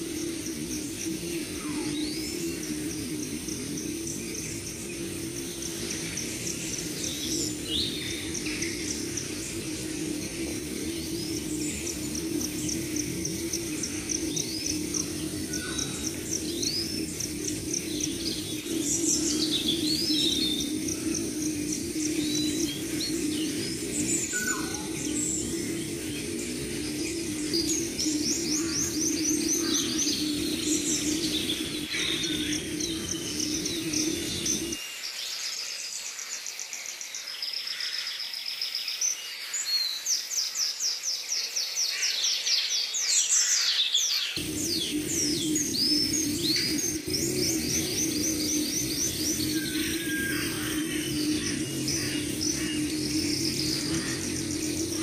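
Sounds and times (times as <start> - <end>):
steady low hum: 0.0 - 34.8, 44.4 - 55.0
wild birds chirping and trilling: 0.0 - 55.0.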